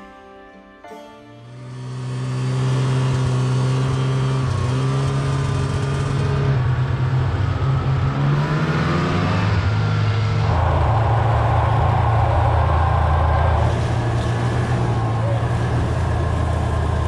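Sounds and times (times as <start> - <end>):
snowmobile engine running: 1.4 - 17.0.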